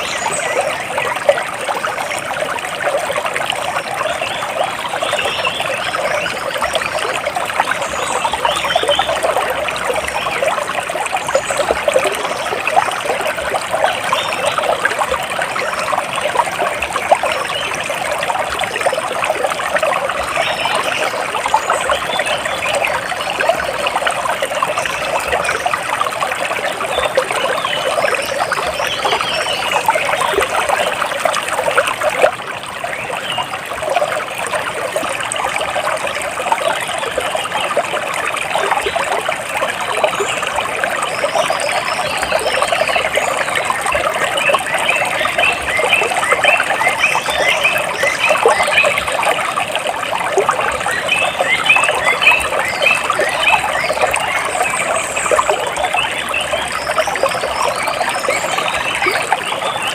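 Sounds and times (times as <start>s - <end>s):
water trickling over stones: 0.0s - 59.9s.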